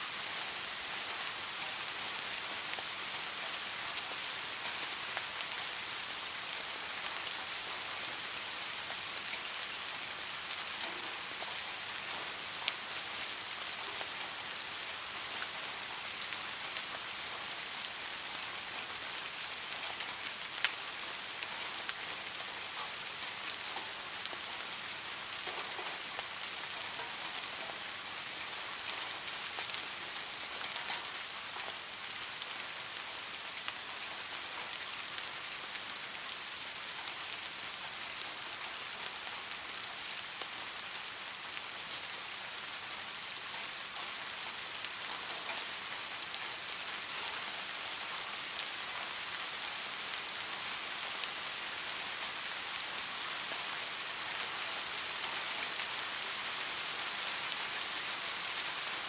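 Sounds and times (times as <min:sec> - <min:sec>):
steady rain pattering: 0:00.0 - 0:59.0.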